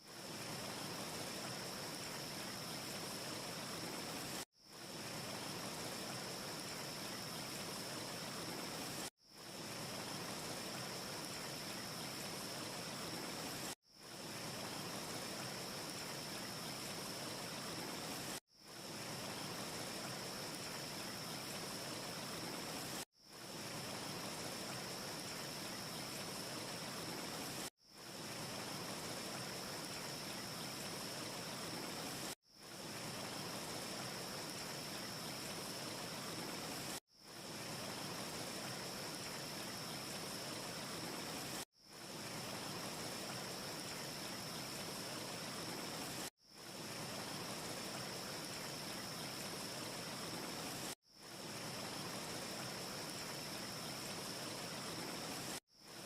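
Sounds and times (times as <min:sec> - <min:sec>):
faint high hiss: 0:00.0 - 0:56.0.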